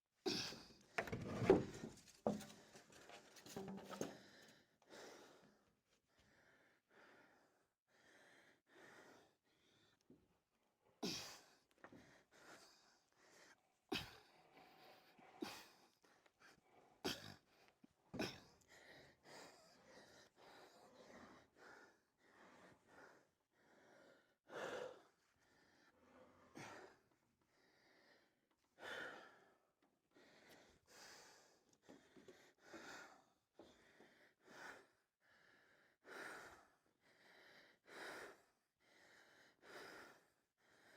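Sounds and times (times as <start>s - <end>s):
man breathing heavily: 4.0s - 10.0s, 11.0s - 40.9s.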